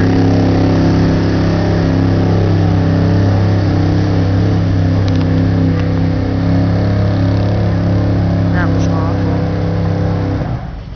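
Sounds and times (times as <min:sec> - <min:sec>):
truck engine at high revs: 0:00.0 - 0:10.9.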